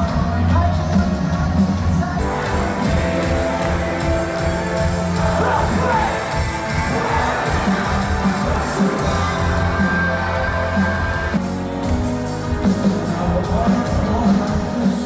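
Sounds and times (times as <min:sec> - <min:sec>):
live band playing amplified music: 0:00.0 - 0:15.0.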